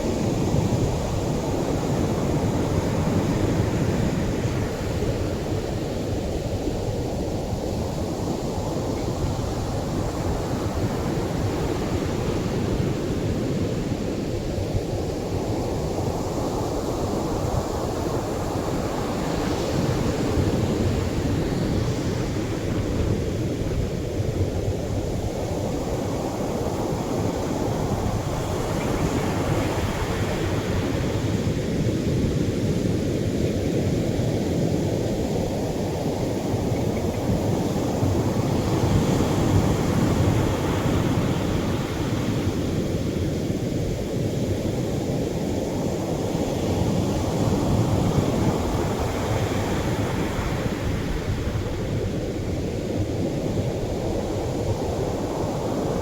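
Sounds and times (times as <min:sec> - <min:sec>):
surf waves breaking on beach: 0:00.0 - 0:56.0.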